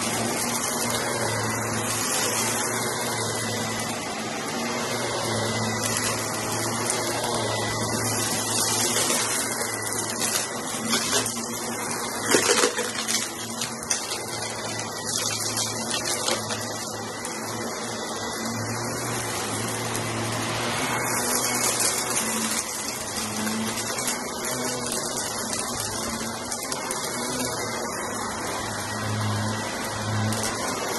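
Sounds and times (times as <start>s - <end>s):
brushroll crunching rug pile: 0.0s - 30.9s
upright vacuum cleaner running: 0.0s - 30.9s.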